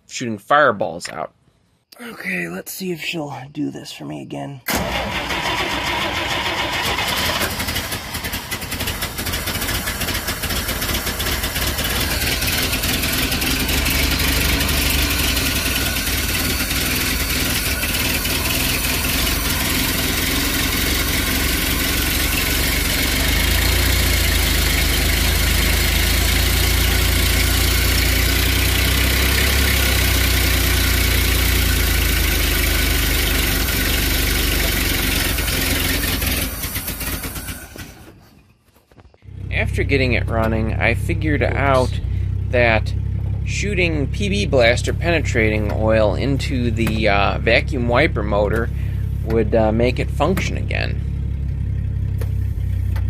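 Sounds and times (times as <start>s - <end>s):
car engine rumbling: 4.7s - 53.0s.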